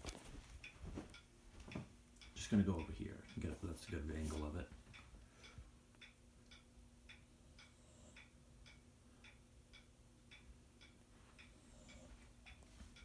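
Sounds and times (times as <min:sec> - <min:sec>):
low steady hum: 0:00.0 - 0:13.0
faint even ticking: 0:00.6 - 0:13.0.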